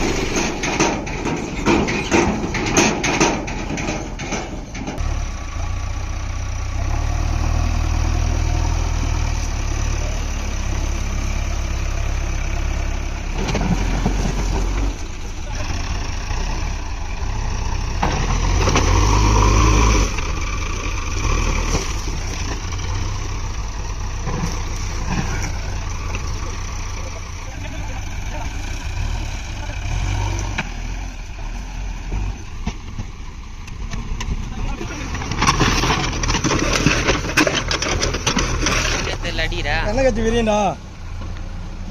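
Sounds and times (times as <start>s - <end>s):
diesel engine working under load: 0.0s - 41.9s.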